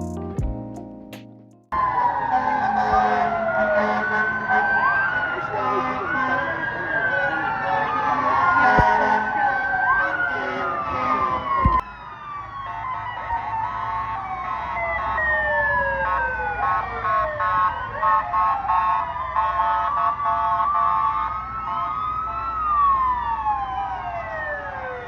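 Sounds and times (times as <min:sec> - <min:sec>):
emergency sirens wailing: 0:01.8 - 0:25.0.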